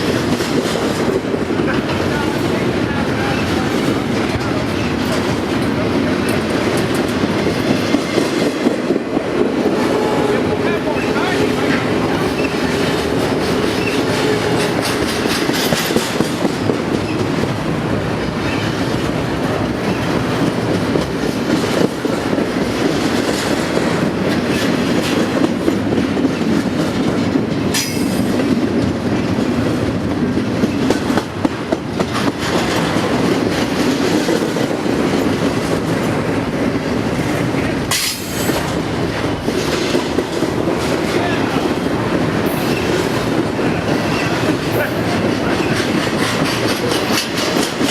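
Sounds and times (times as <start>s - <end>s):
train wheels on rails: 0.0s - 47.9s
wheels clicking over rail joints: 0.0s - 47.9s.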